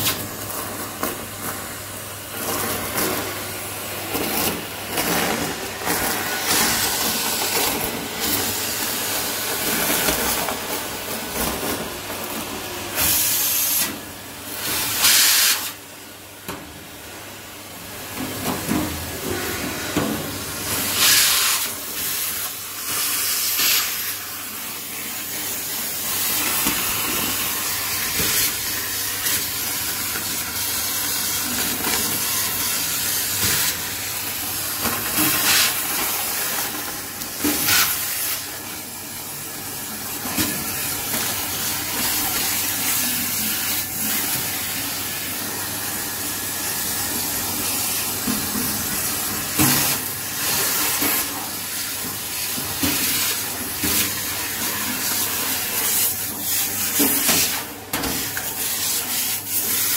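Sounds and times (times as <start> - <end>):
vacuum cleaner suction hiss: 0.0 - 16.2, 17.0 - 59.9.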